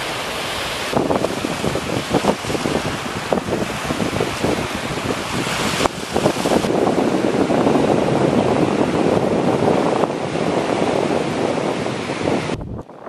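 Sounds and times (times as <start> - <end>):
surf against rocky shore: 0.0 - 13.0
wind blowing on microphone: 0.0 - 13.0.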